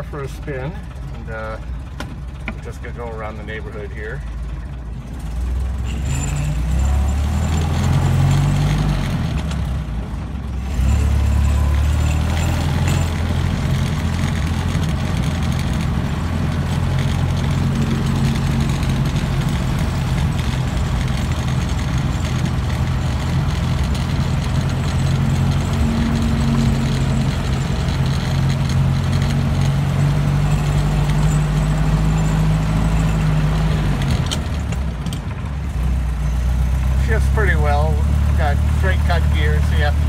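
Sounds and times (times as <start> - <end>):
car engine droning: 0.0 - 40.0.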